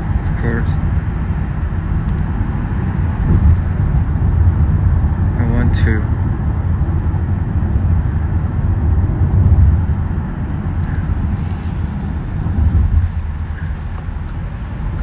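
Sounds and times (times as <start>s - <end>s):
car cabin road rumble: 0.0s - 15.0s.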